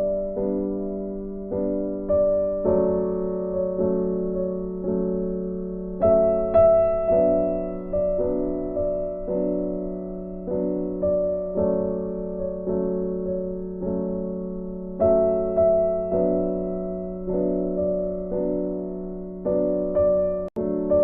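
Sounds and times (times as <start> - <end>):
soft slow piano melody: 0.0 - 21.0.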